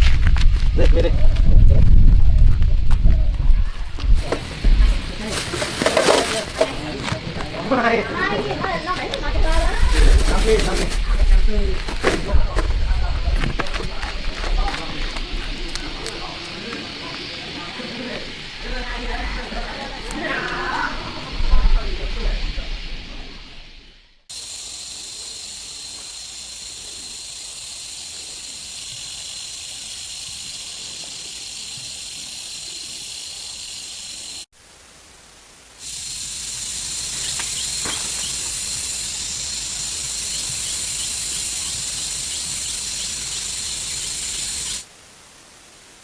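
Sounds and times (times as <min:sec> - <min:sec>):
high-pitched insect chorus: 0:04.2 - 0:45.9.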